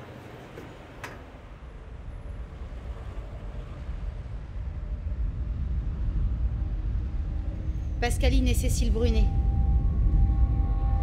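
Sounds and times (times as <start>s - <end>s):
deep low rumble: 1.5s - 11.0s.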